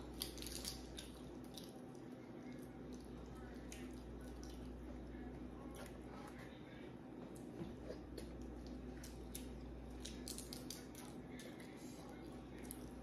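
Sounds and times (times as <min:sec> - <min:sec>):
person chewing wetly: 0:00.0 - 0:06.5, 0:07.3 - 0:13.0.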